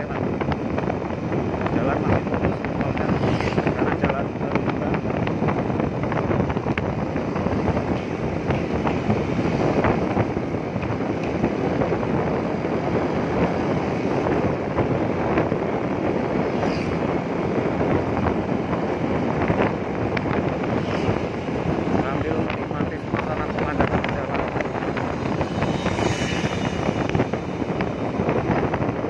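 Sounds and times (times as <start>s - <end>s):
motorcycle road noise: 0.0s - 29.0s
wind rushing over microphone: 0.0s - 29.0s.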